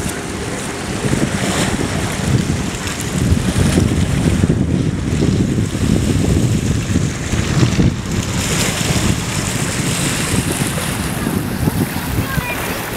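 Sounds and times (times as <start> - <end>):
small waves washing on beach: 0.0 - 12.9
wind buffeting microphone: 0.0 - 12.9.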